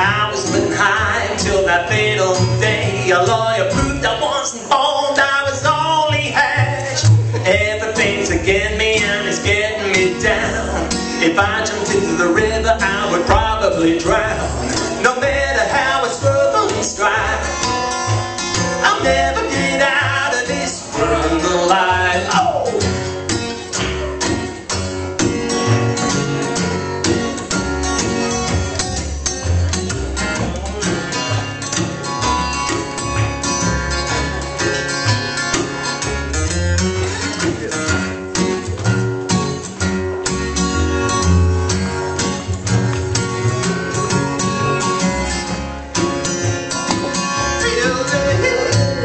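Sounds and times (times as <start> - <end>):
acoustic guitar picking: 0.0 - 49.0
walking bass line: 0.0 - 49.0.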